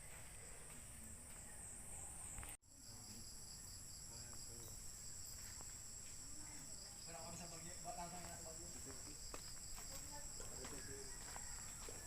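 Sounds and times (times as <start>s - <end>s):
faint insect chorus: 0.0s - 12.0s.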